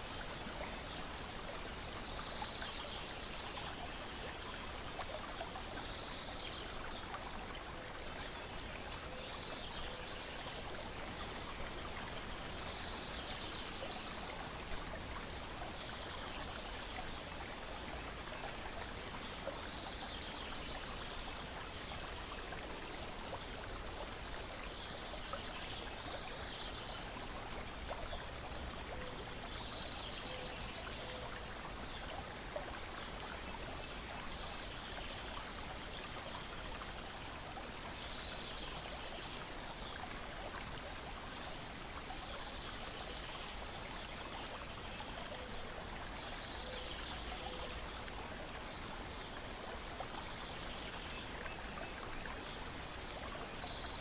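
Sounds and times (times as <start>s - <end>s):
water lapping and trickling: 0.0s - 54.0s.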